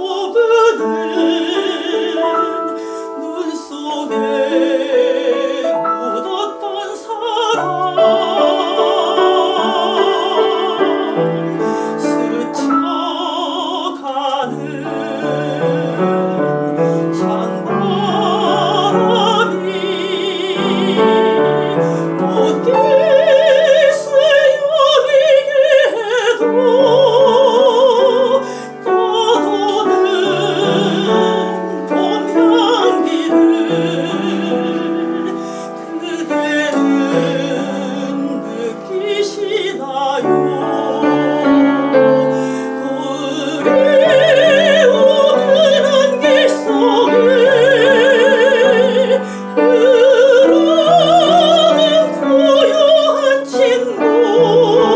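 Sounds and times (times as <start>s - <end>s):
piano accompaniment: 0.0s - 54.9s
soprano singing: 0.0s - 54.9s.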